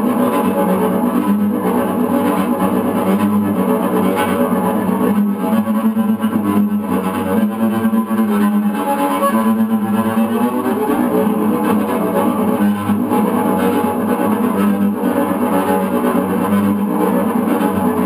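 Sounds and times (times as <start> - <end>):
bowed cello: 0.0 - 18.0.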